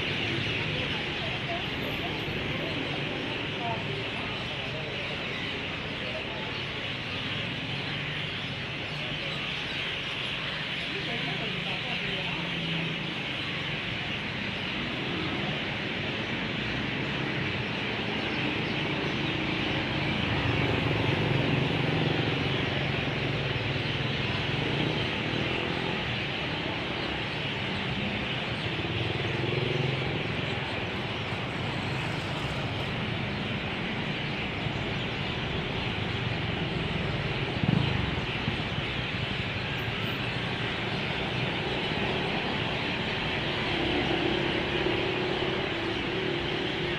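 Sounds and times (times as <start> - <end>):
road traffic rumble: 0.0 - 46.9
vehicles passing: 0.0 - 46.9.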